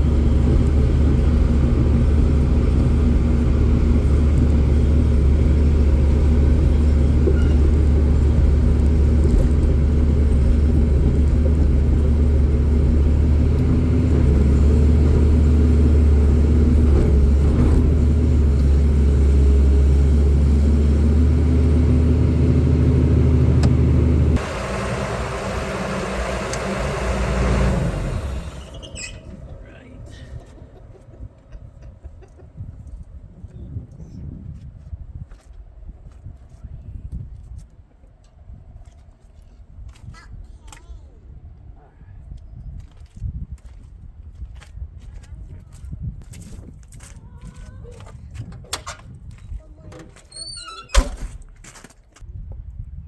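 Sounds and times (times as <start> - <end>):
engine low rumble: 0.0 - 53.0.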